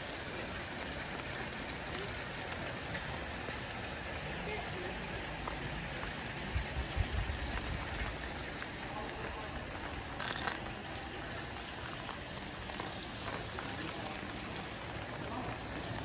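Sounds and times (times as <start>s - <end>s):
light rain hissing: 0.0s - 16.0s
running water on pavement: 0.0s - 16.0s.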